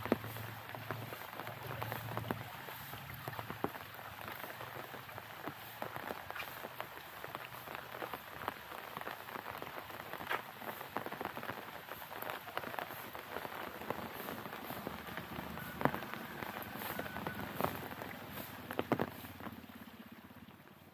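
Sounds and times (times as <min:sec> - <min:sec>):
raindrops ticking: 0:00.0 - 0:20.9
steady rain on hard surfaces: 0:00.0 - 0:20.9.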